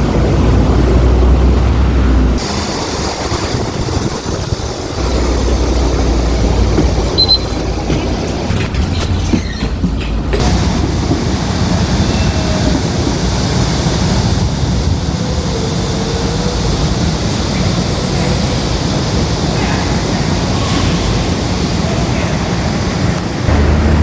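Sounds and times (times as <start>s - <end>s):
train rumbling past: 0.0s - 24.0s
train wheels clacking: 2.4s - 24.0s.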